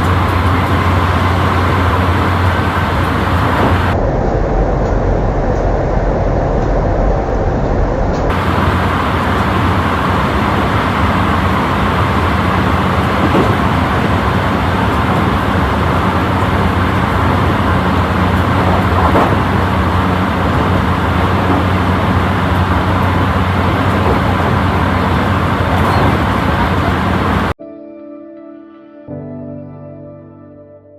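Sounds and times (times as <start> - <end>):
low hum: 0.0 - 27.6
wheels rumbling on rails: 0.0 - 27.6.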